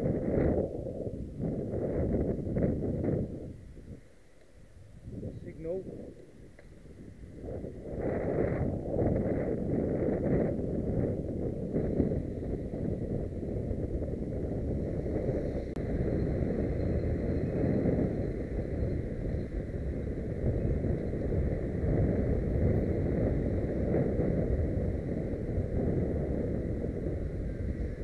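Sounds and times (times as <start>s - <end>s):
passing car traffic rumble: 0.0s - 28.0s
wind rushing over microphone: 0.0s - 28.0s.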